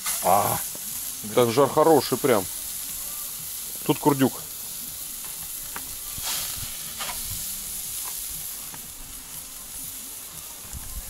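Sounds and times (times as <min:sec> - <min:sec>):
meat sizzling over embers: 0:00.0 - 0:11.0.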